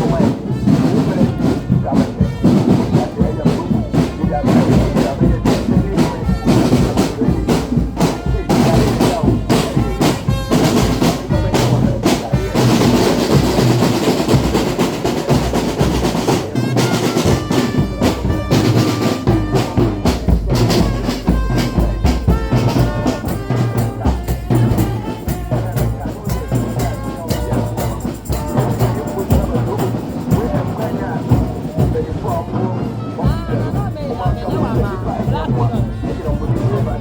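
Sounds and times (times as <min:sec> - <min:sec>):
loud music with heavy drumming: 0:00.0 - 0:37.0.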